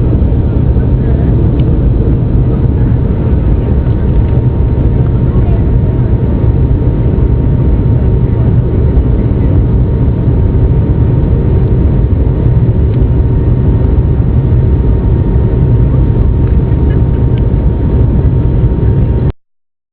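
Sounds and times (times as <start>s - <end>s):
faint steady whine: 0.0s - 19.3s
jet engines rumbling: 0.0s - 19.3s.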